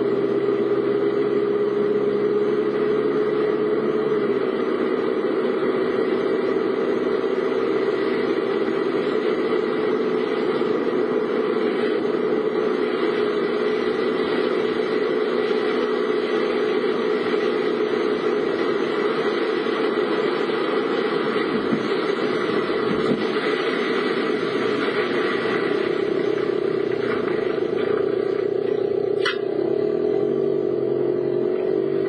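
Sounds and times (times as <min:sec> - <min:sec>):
car running from inside: 0:00.0 - 0:32.0.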